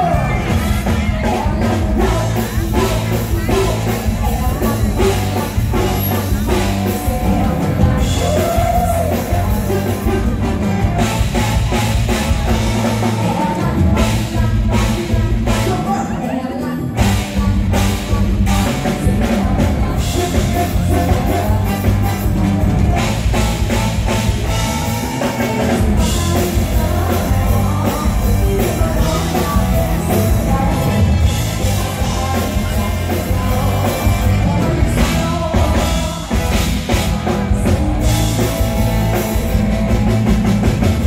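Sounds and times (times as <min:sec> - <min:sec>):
woman singing live: 0:00.0 - 0:39.7
amplified band with drums and bass: 0:00.0 - 0:41.0.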